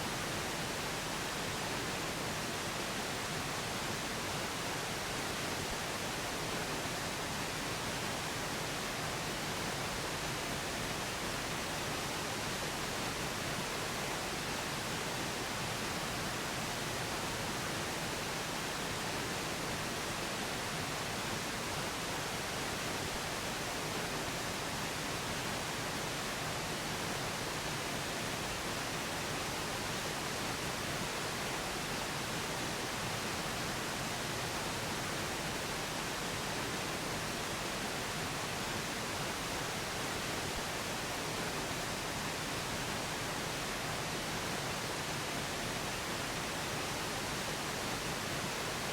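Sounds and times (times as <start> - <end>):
pink noise hiss: 0.0 - 48.9.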